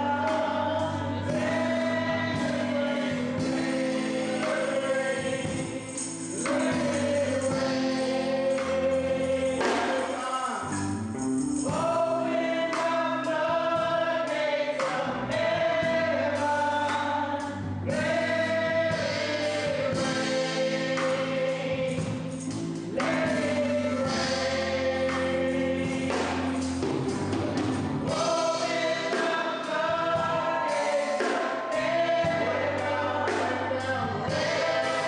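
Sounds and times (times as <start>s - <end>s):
choir singing held notes: 0.0s - 35.0s
instrumental accompaniment: 0.0s - 35.0s.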